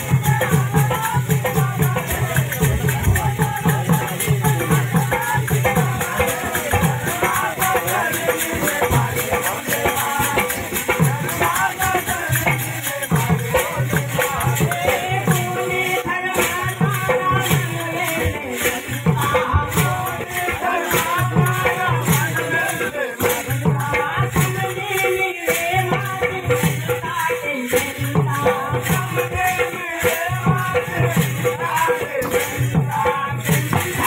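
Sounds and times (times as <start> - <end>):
rattling percussion: 0.0 - 34.0
repeating drum beat: 0.0 - 34.0.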